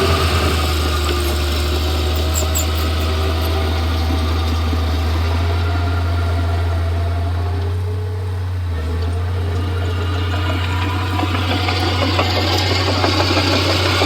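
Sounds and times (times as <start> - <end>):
bulldozer diesel engine humming: 0.0 - 14.0.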